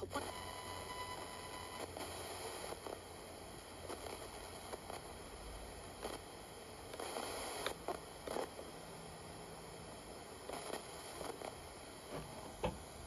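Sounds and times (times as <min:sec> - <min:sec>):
scratchy radio bursts and ticks: 0:00.0 - 0:08.8, 0:09.9 - 0:12.8
radio static hiss: 0:00.0 - 0:13.0.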